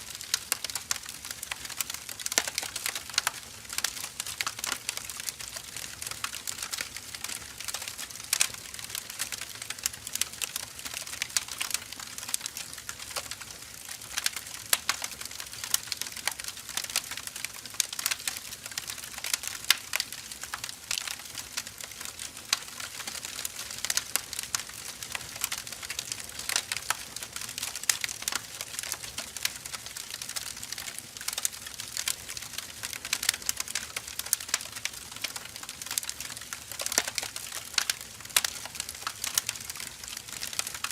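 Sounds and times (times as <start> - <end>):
firewood crackling: 0.1 - 40.9.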